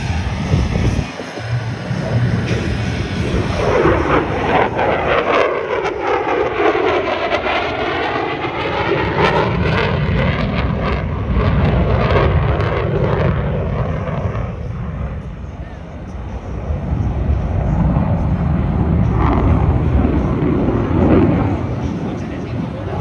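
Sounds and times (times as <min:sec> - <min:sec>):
fighter jet roaring past: 0:00.0 - 0:23.0.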